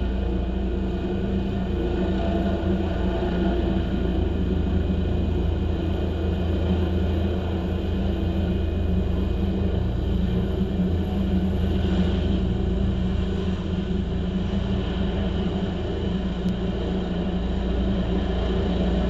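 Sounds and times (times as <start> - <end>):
helicopter rumble and hum: 0.0 - 19.0.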